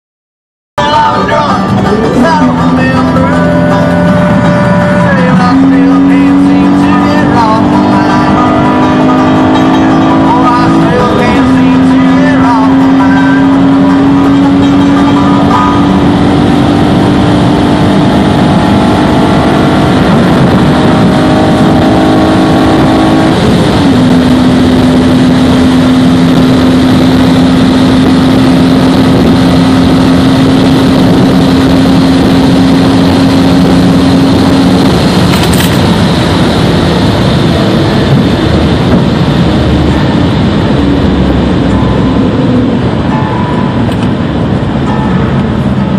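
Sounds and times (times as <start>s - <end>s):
car engine accelerating: 0.8s - 45.9s
wind and road noise: 0.8s - 45.9s.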